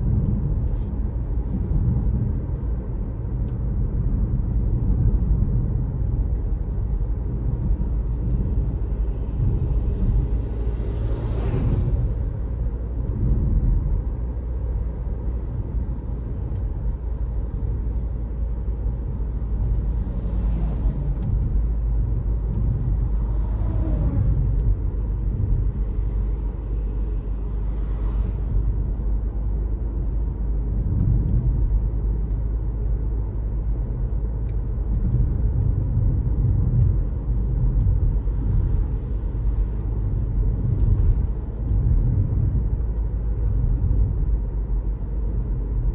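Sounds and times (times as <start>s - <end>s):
car tyres and engine rumble: 0.0s - 45.9s.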